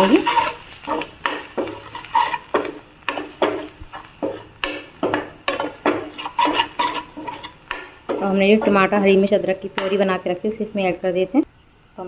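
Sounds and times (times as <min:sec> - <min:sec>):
metal spoon scraping a pan: 0:00.0 - 0:10.2.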